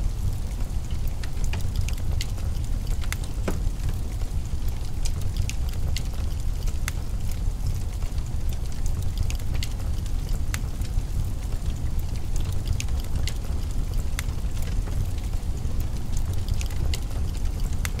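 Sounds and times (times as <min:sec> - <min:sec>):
wood fire crackling in a fireplace: 0:00.0 - 0:18.0.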